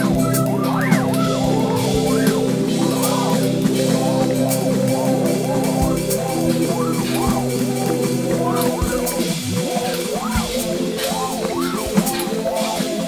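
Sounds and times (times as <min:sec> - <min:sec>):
scattered clicks: 0:00.0 - 0:13.0
swooping gliding tones: 0:00.0 - 0:13.0
synth chord drone: 0:00.0 - 0:13.0.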